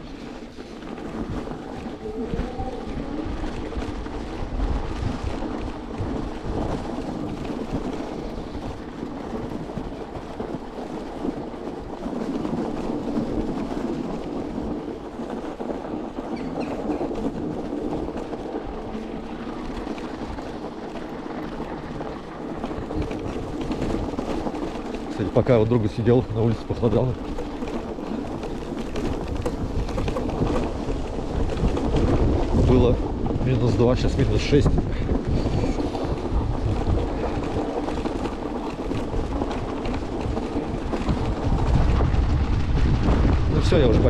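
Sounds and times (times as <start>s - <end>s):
electric vehicle rolling through snow: 0.0s - 44.0s
wind buffeting microphone: 0.0s - 44.0s.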